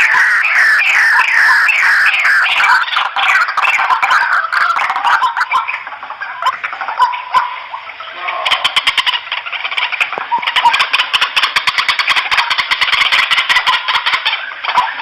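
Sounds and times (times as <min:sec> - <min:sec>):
waterhens calling harshly: 0:00.0 - 0:15.0.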